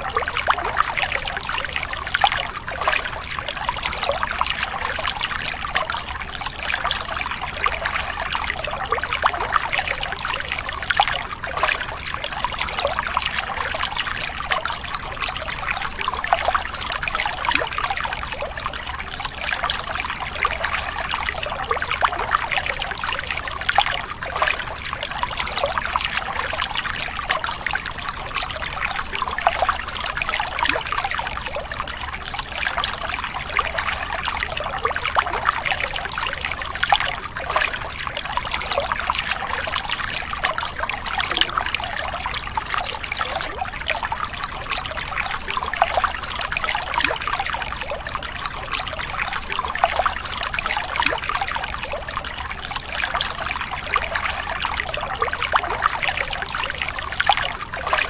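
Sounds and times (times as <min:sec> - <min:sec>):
water trickling from hose: 0:00.0 - 0:58.0.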